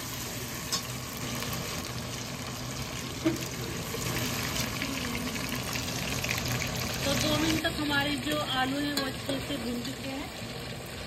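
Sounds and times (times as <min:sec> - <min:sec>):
potatoes sizzling in oil: 0:00.0 - 0:11.0.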